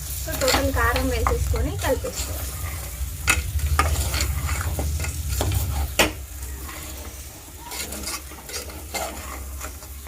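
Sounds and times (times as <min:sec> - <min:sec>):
meat sizzling in a pot: 0:00.0 - 0:10.0
utensil scraping a pot: 0:00.0 - 0:10.0.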